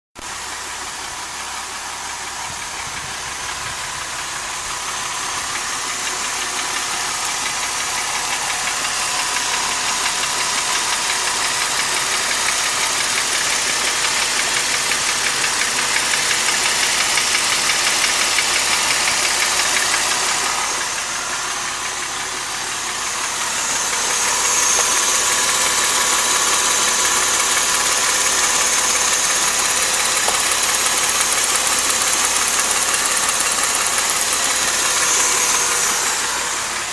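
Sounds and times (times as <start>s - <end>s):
car engine idling with knocking: 0.2s - 36.9s.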